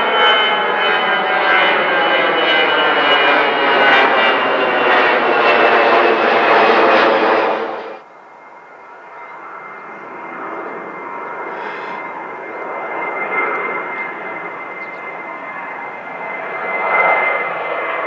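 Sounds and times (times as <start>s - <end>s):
jet airliner engines roaring: 0.0s - 18.0s.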